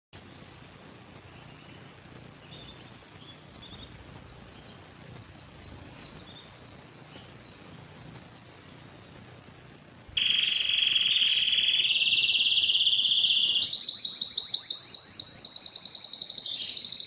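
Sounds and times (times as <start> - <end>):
background hiss: 0.2 - 17.0
canary singing: 0.2 - 17.0.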